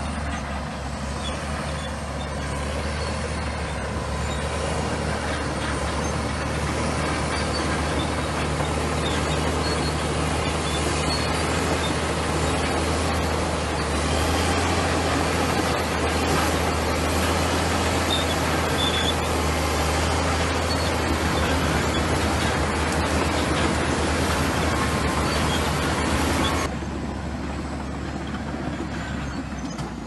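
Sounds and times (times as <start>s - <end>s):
bulldozer diesel engine running: 0.0s - 30.0s
high squeaks: 1.1s - 26.7s.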